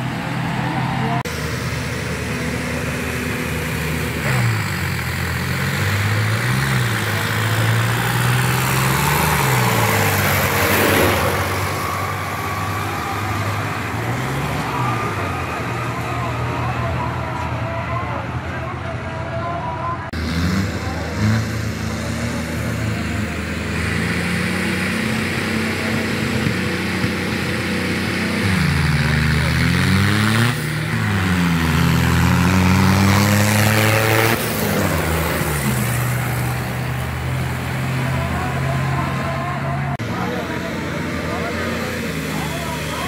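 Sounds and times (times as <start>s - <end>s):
diesel tractor engines running: 0.0s - 43.0s.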